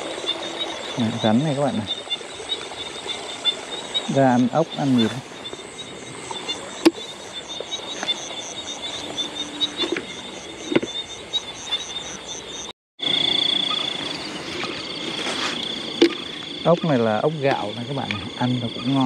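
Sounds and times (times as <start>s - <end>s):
fast pulsing frog call: 0.0s - 19.0s.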